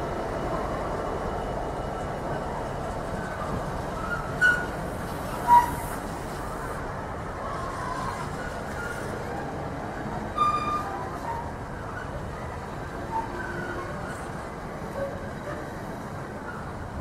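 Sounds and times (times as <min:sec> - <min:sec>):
high train squeals: 0:00.0 - 0:17.0
train rumbling: 0:00.0 - 0:17.0.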